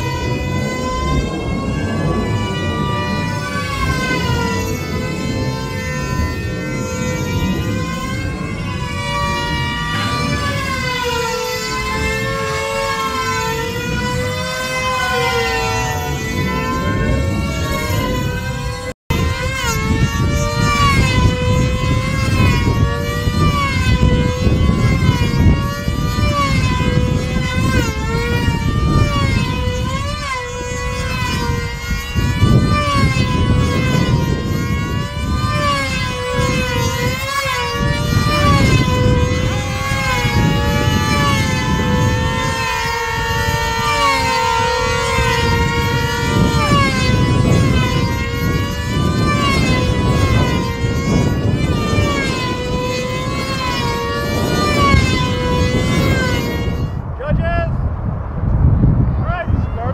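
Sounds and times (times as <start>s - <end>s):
model airplane engines whining: 0.0s - 57.8s.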